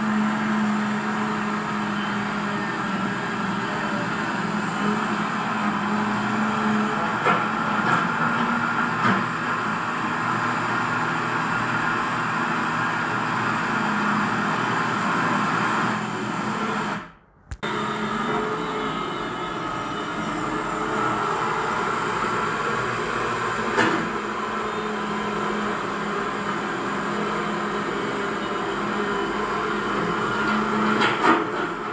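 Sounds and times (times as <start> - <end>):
model excavator motors whining: 0.0 - 31.9.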